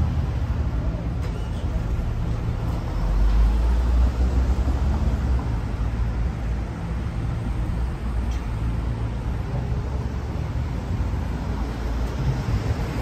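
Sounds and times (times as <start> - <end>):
cars passing: 0.0 - 13.0.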